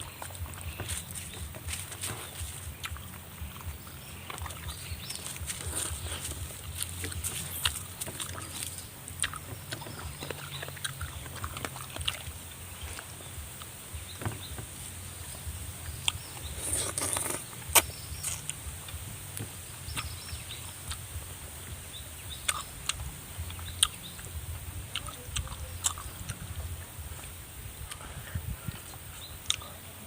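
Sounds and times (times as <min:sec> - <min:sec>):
chewing and sucking chicken feet: 0:00.0 - 0:14.7, 0:15.3 - 0:30.0.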